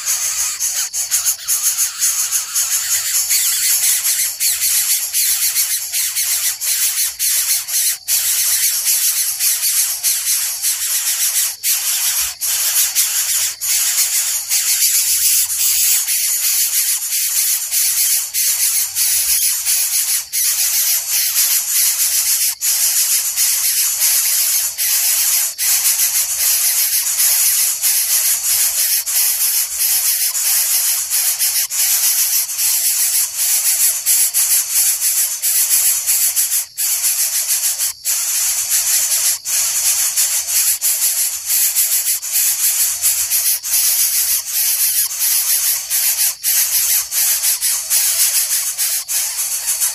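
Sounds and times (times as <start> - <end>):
bird rasping hiss: 0.0 - 49.9.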